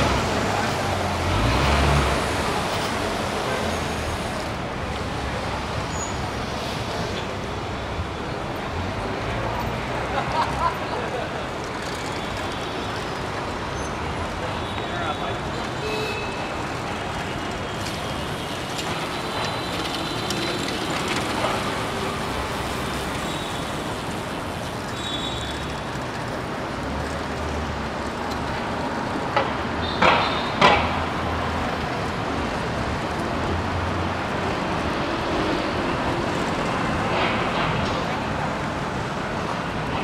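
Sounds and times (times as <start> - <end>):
passing vehicles and engines: 0.0 - 40.0.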